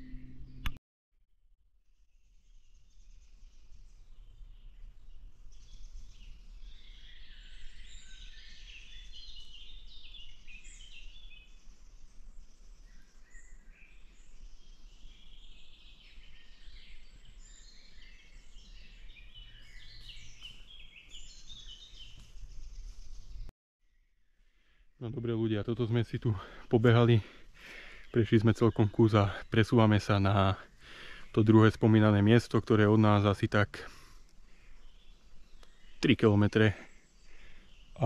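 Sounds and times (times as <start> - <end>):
songbirds chirping and trilling: 2.2 - 38.0.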